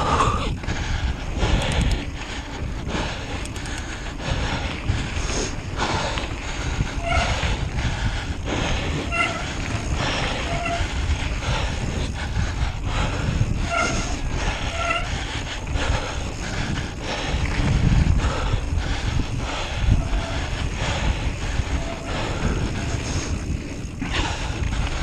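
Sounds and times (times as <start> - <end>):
cyclist breathing hard: 0.0 - 25.0
wind rumble on microphone: 0.0 - 25.0.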